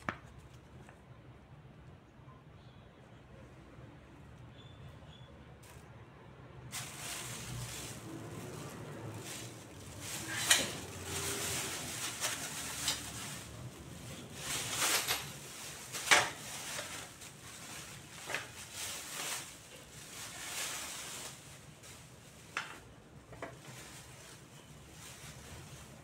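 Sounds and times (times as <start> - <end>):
plastic wrap rustling and crackling: 0.0 - 1.1, 5.6 - 5.9, 6.6 - 26.0.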